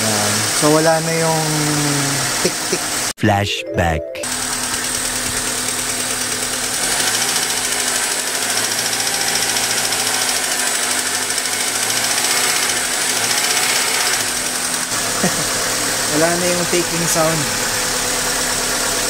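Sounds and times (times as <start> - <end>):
car engine idling: 0.0 - 3.1, 4.2 - 19.0
rapid engine ticking: 0.0 - 3.1, 4.2 - 19.0.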